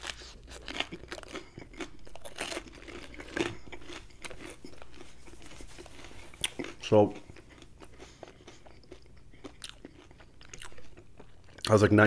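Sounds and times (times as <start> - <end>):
wet mouth sounds: 0.0 - 11.7
crunchy chewing: 0.0 - 11.8.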